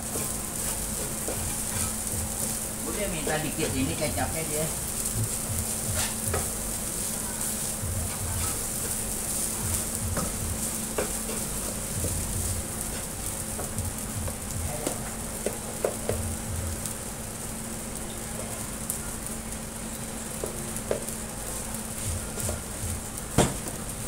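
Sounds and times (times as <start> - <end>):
rice sizzling in a pan: 0.0 - 24.0.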